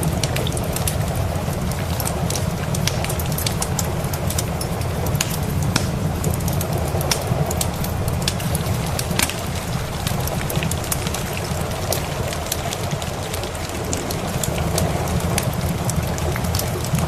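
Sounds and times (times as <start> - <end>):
rain hissing: 0.0 - 17.0
wood fire crackling: 0.0 - 17.0.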